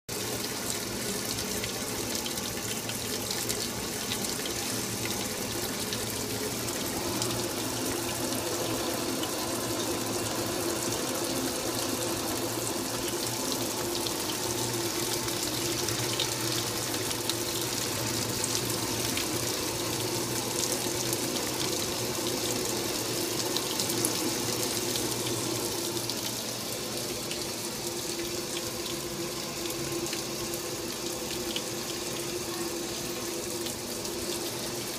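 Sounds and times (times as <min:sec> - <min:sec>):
washing machine hum: 0:00.1 - 0:34.9
water sloshing in washing machine: 0:00.1 - 0:34.9.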